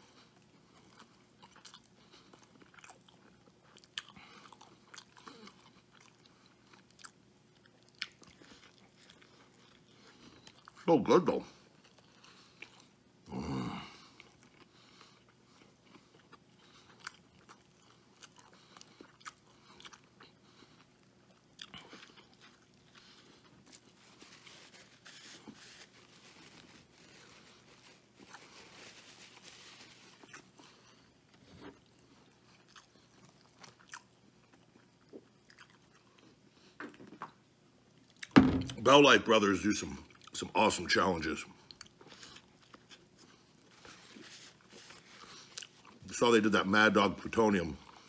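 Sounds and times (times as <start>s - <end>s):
chewing and biting food: 0.0s - 10.8s, 11.4s - 13.1s, 13.8s - 38.4s, 41.5s - 46.1s, 47.8s - 48.0s.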